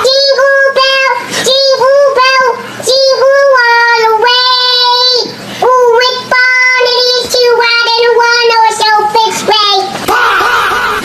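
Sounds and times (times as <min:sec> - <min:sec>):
child singing long high notes: 0:00.0 - 0:10.2.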